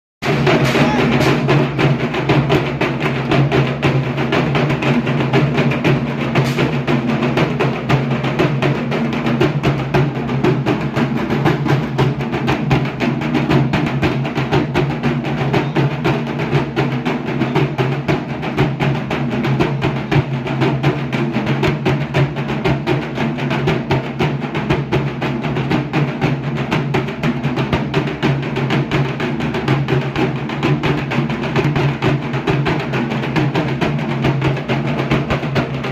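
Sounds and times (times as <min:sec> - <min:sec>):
barrel drum beaten with sticks: 0:00.2 - 0:35.9.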